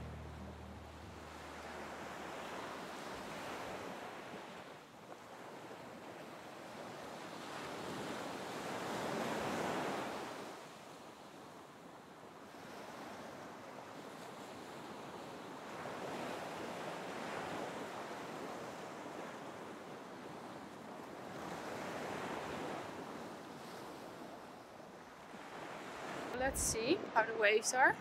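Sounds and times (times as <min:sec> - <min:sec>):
ocean waves breaking: 0:00.0 - 0:10.4, 0:15.6 - 0:28.0.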